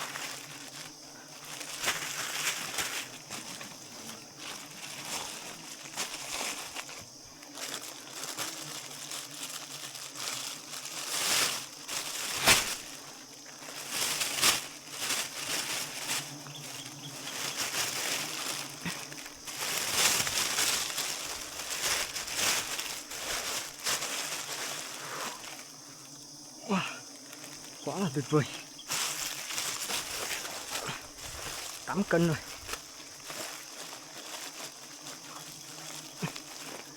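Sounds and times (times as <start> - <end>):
rustling and crackling: 0.0 - 26.2, 27.0 - 36.9.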